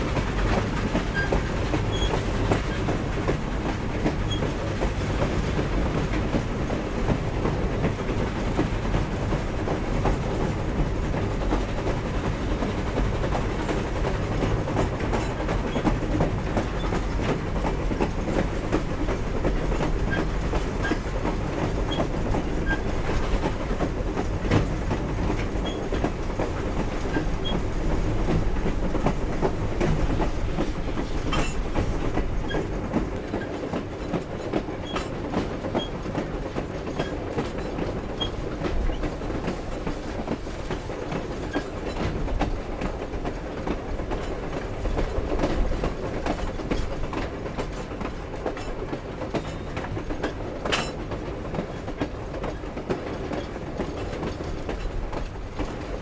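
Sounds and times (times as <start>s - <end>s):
train cars clanking: 0.0s - 56.0s
train cars rumbling on track: 0.0s - 56.0s
wheels clacking over rail joints: 0.0s - 56.0s.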